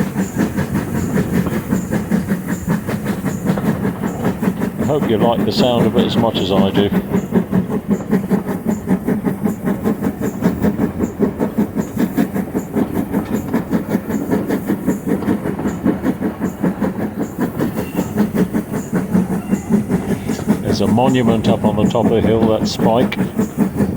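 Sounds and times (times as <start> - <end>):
steam exhaust beating: 0.0 - 23.9
train clickety-clack on rails: 0.0 - 23.9.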